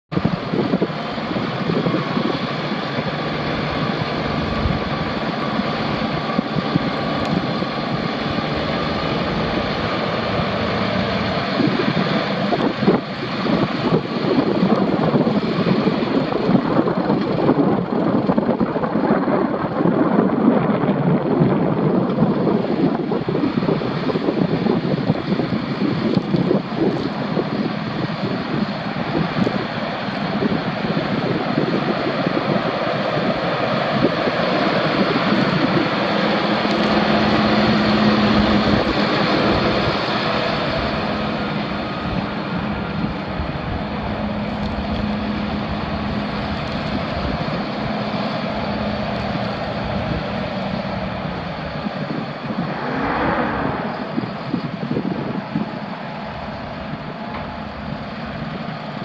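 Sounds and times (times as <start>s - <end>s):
tractor diesel engine running: 0.1s - 52.7s, 54.1s - 59.0s
wind buffeting microphone: 0.1s - 59.0s.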